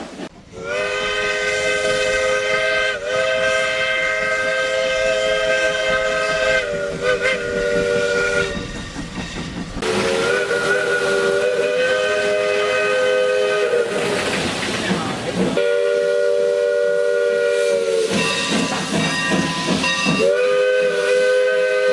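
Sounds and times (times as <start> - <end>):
steam hiss: 0.0 - 21.9
chime steam whistle blasts: 0.6 - 8.9, 9.8 - 14.3, 15.6 - 21.9.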